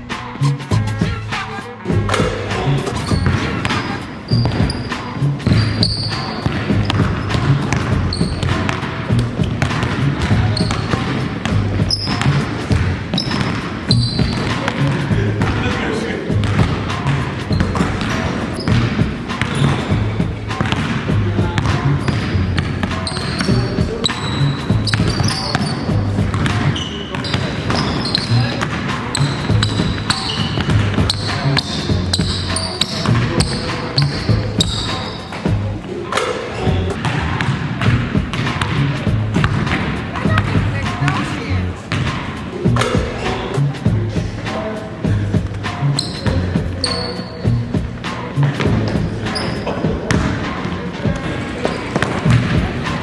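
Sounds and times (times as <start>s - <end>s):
shoes squeaking on floor: 1.8s - 53.0s
basketball bouncing on a court: 1.9s - 44.4s, 45.0s - 53.0s.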